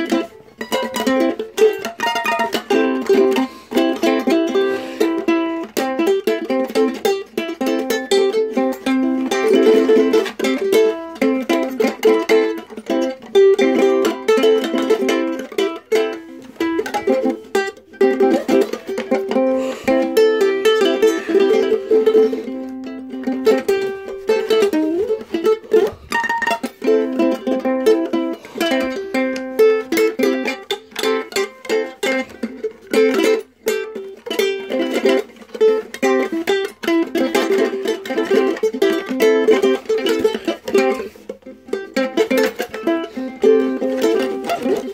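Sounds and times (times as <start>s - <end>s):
ukulele plucked and strummed: 0.0s - 44.9s.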